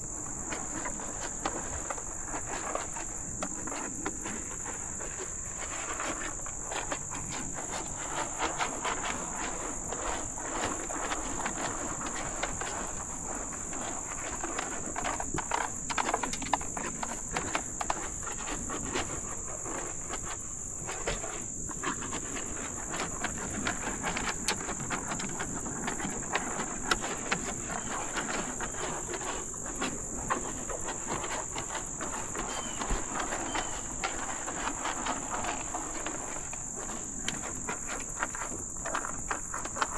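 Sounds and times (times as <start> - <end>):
cattle crunching feed: 0.0 - 39.9
insect chorus: 0.0 - 39.9.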